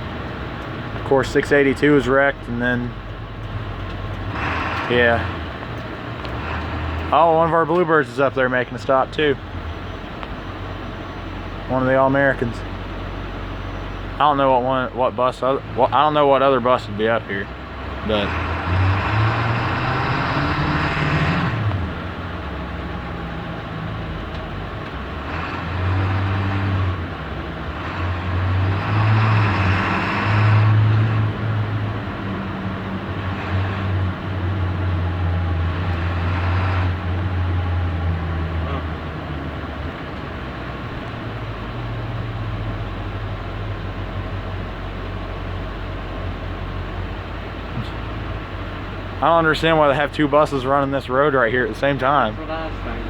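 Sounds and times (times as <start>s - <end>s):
bus engine droning: 0.0s - 53.0s
road noise: 0.0s - 53.0s.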